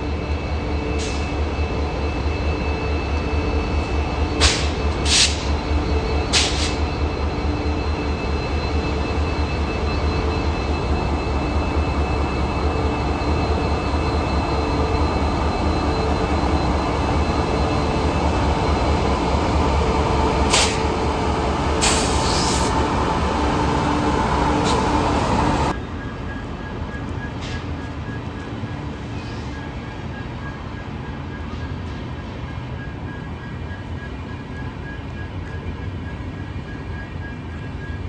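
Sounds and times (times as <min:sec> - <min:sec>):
diesel locomotive engine humming: 0:00.0 - 0:38.0.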